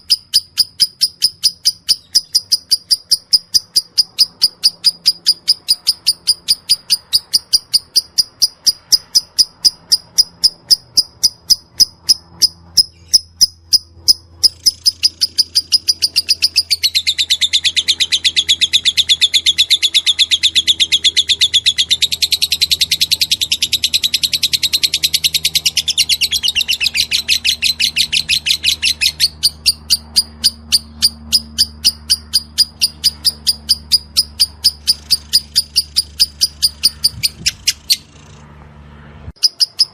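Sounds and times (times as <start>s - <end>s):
lovebird chattering trill: 0.0s - 38.4s, 39.4s - 39.9s
lovebird chirps: 0.0s - 38.4s, 39.4s - 39.9s.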